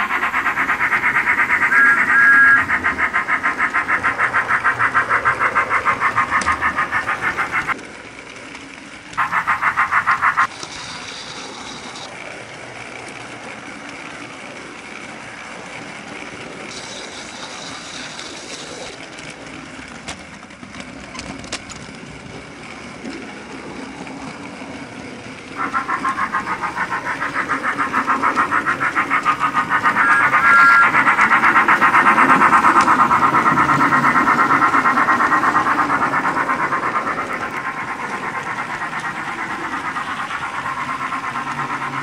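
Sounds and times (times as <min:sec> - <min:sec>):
steam engine chuffing: 0:00.0 - 0:42.0.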